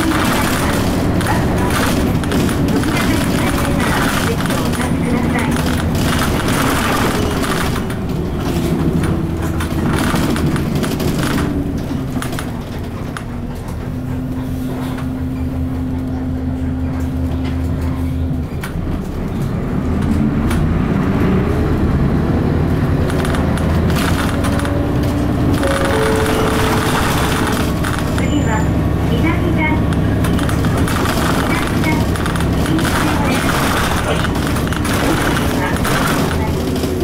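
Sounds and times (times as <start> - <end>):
bus diesel engine from inside: 0.0 - 37.0.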